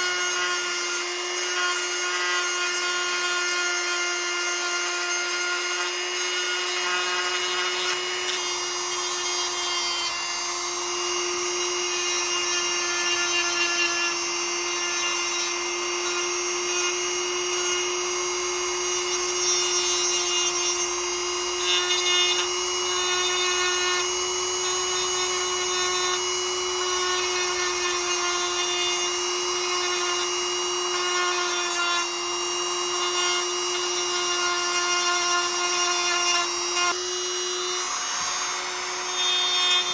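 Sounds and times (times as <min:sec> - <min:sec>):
rotary tool grinding steel: 0:00.0 - 0:39.9.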